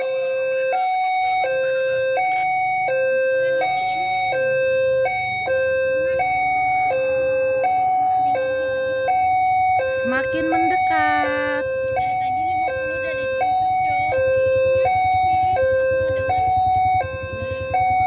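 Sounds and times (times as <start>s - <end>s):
two-tone level crossing alarm: 0.0s - 18.0s.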